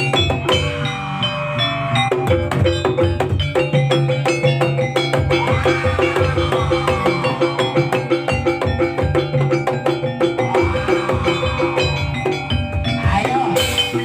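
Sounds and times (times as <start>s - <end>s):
drums: 0.0s - 14.0s
gamelan music: 0.0s - 14.0s
gong-chime percussion: 0.0s - 14.0s.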